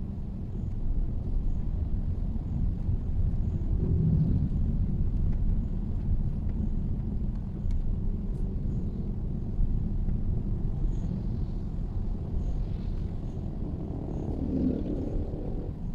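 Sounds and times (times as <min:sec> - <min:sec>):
car engine and tyre rumble: 0:00.0 - 0:15.9.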